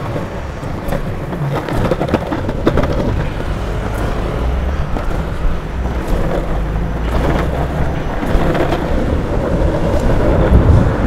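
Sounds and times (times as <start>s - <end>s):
longboard wheels rumbling on tarmac: 0.0s - 11.0s
wheels clicking over cracks: 0.0s - 11.0s.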